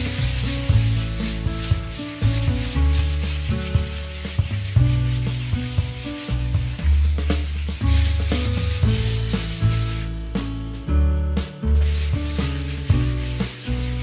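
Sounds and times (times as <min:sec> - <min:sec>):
hand float rasping on cement: 0:00.0 - 0:10.1, 0:11.8 - 0:14.0
music with heavy bass: 0:00.0 - 0:14.0.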